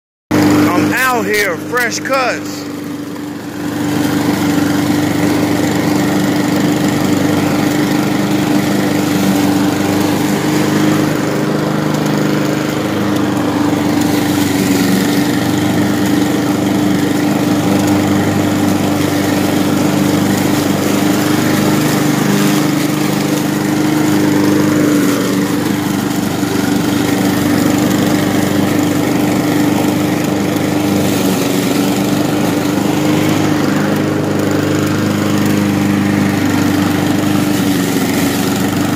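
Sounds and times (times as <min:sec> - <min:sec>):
petrol lawn mower cutting grass: 0:00.3 - 0:38.9.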